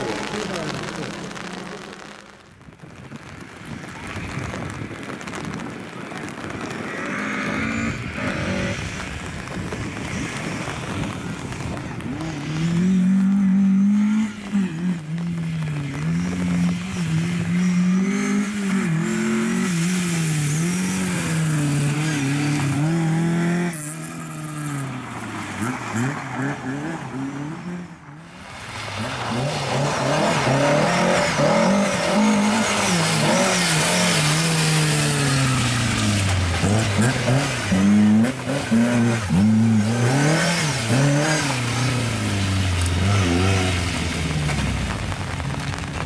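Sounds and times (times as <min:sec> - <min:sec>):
rally car engine revving: 0:00.0 - 0:02.1, 0:06.2 - 0:46.0.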